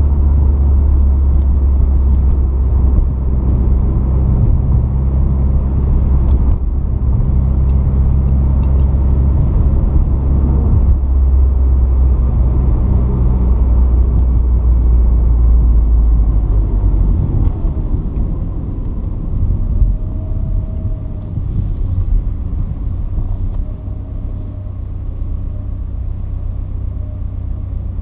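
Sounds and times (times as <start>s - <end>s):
car engine while driving: 0.0s - 28.0s
road rumble: 0.0s - 28.0s.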